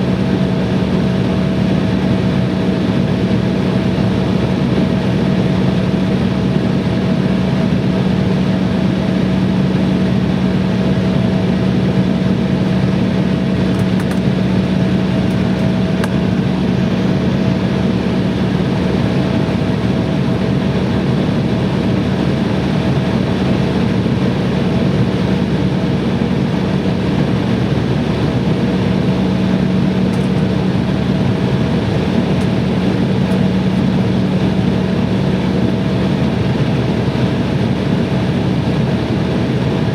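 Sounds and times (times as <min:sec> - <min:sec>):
airliner engine hum in cabin: 0:00.0 - 0:39.9.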